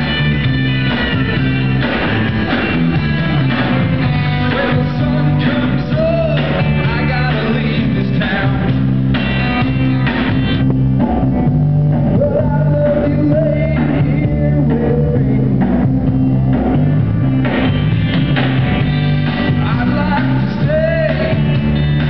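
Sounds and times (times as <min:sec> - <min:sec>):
electric guitars: 0:00.0 - 0:22.0
sustained bass line: 0:00.0 - 0:22.0.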